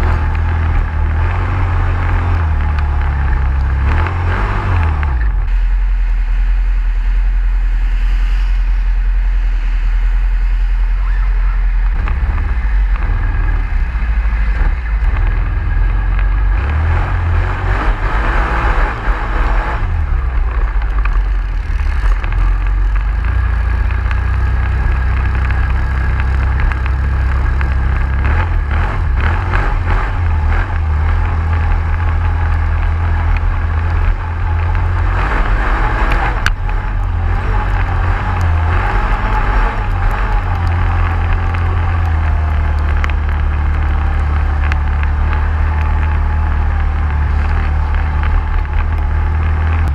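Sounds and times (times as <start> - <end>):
quad bike engine rumbling: 0.0 - 49.9.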